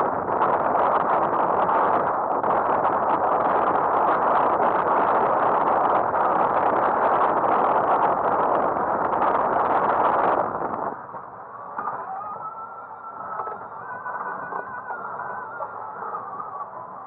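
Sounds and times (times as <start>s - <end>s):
water rushing along a hull: 0.0s - 17.0s.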